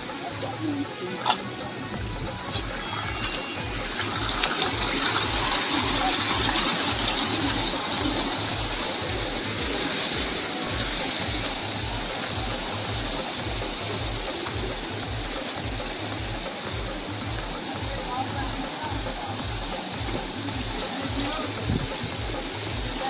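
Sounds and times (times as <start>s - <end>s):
flowing water rushing: 0.0s - 23.0s
music with repeating bass beat: 0.0s - 23.0s.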